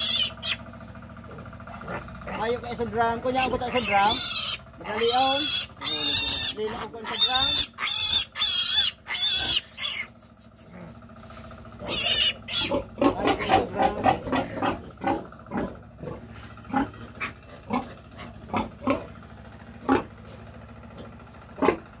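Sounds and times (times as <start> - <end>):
pigs grunting: 0.0 - 0.6, 1.2 - 22.0.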